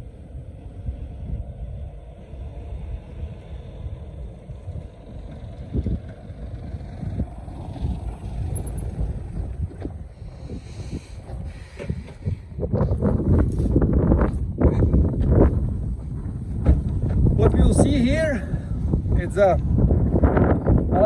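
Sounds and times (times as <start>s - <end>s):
pickup truck driving on dirt: 0.0s - 21.0s
wind rumble on microphone: 0.0s - 21.0s.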